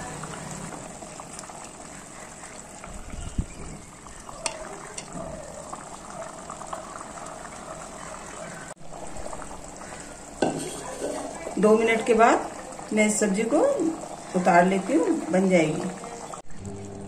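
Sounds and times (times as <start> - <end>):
gravy bubbling in a pot: 0.0 - 17.0.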